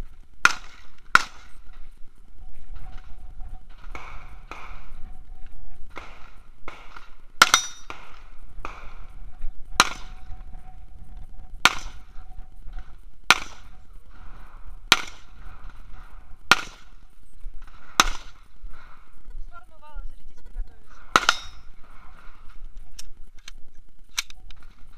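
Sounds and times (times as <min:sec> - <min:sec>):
carbine gunshots: 0:00.4 - 0:10.8, 0:11.6 - 0:19.1, 0:20.9 - 0:23.2.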